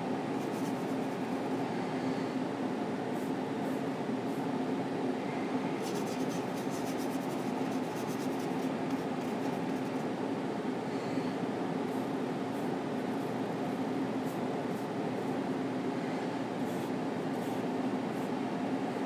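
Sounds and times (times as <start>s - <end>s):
room hum with low drone: 0.0s - 19.0s.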